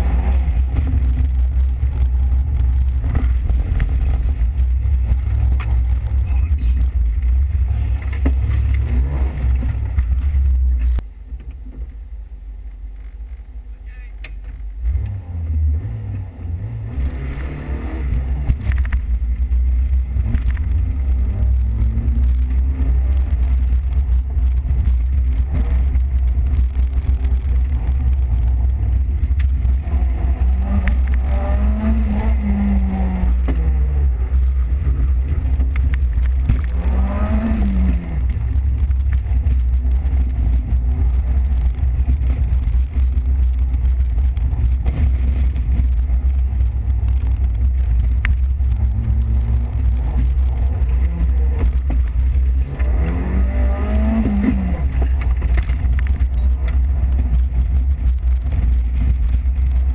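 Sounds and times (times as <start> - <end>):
car engine revving: 0.0 - 11.0, 12.9 - 59.9
heavy low rumble: 0.0 - 59.9.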